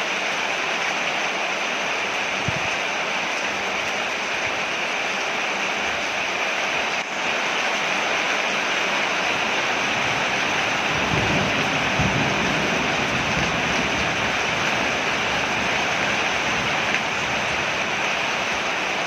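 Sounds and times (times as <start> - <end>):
heavy rain on a porch: 0.0 - 19.0.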